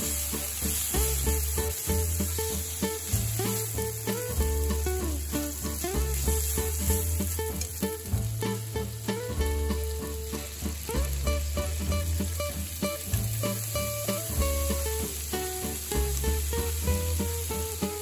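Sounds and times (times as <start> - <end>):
background music with bass line: 0.0 - 18.0
meat sizzling in frying pan: 0.0 - 18.0.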